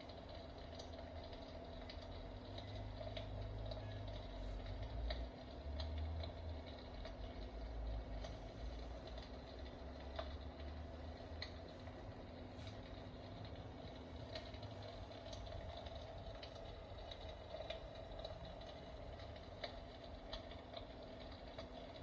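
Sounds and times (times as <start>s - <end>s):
electric fireplace hum: 0.0s - 22.0s.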